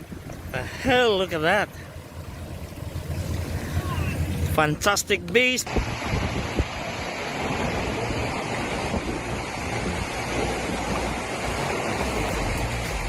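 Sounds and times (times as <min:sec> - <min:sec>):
wind buffeting microphone: 0:00.0 - 0:04.9, 0:05.6 - 0:13.0
low rumble: 0:00.0 - 0:13.0
rushing water: 0:00.0 - 0:13.0.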